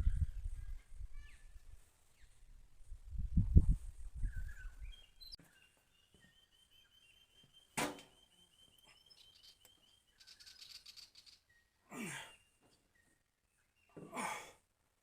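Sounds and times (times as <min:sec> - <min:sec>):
faint birds chirping: 0:00.0 - 0:02.6, 0:03.7 - 0:15.0.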